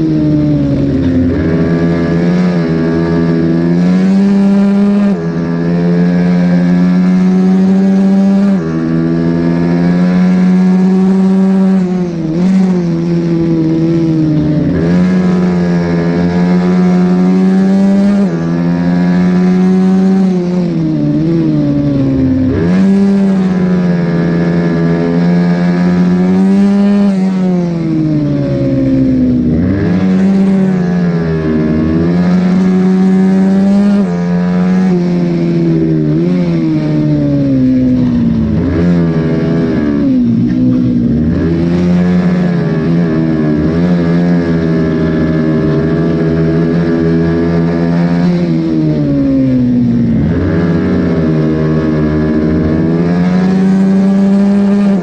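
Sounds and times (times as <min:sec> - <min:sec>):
minibike engine at high revs: 0:00.0 - 0:55.0.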